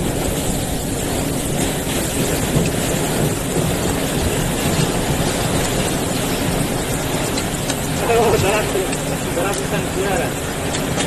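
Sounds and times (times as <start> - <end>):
storm wind and water roar: 0.0 - 11.0.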